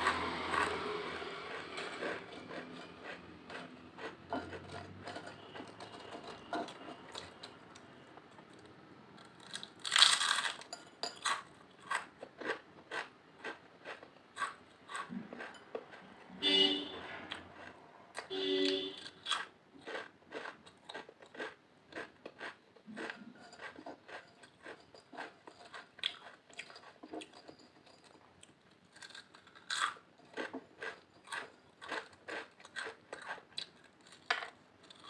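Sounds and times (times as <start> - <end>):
potato chips crunching: 0.0 - 7.5, 8.6 - 16.0, 17.6 - 27.3, 28.4 - 35.0.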